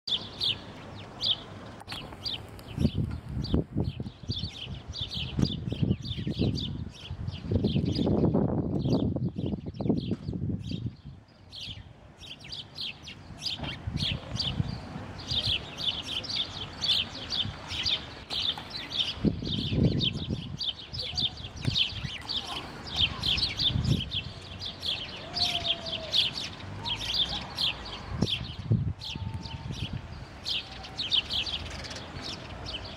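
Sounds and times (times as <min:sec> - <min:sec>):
sparrows chirping: 0:00.1 - 0:32.9.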